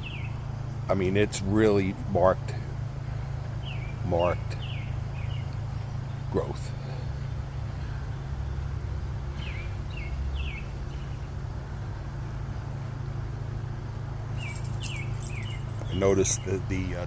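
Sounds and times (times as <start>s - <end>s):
bird chirping: 0.0s - 2.6s, 3.5s - 13.2s, 14.3s - 17.0s
low outdoor rumble: 0.0s - 17.0s.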